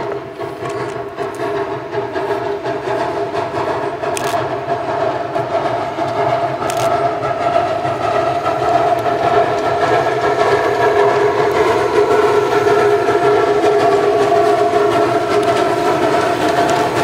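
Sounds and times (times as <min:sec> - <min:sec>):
steam train running: 0:00.0 - 0:17.0.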